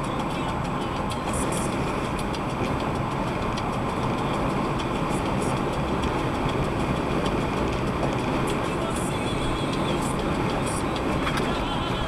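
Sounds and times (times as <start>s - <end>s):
car engine hum: 0.0s - 12.0s
road and tyre noise: 0.0s - 12.0s
faint light ticks: 0.1s - 12.0s.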